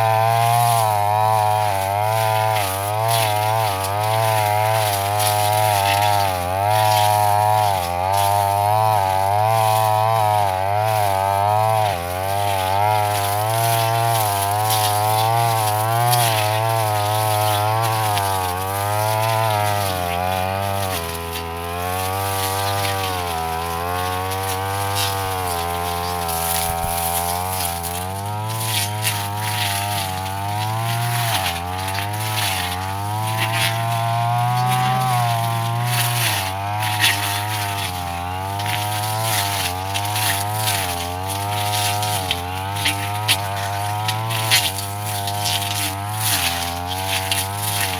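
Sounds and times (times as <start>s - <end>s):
brush cutter engine running: 0.0s - 47.9s.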